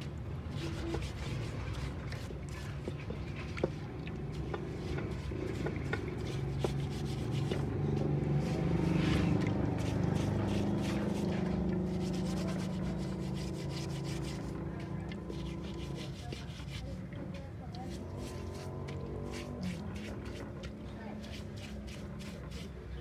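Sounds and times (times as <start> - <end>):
brush scrubbing engine casing: 0.0 - 23.0.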